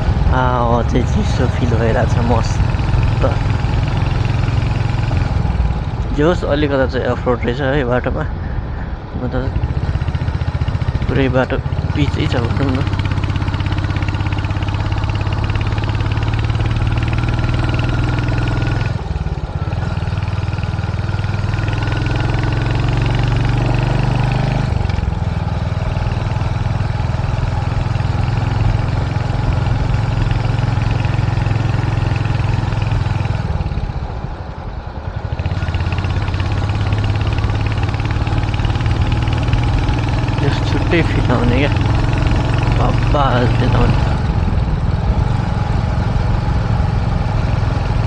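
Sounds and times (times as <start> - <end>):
motorcycle engine running: 0.0 - 7.6, 8.3 - 48.0.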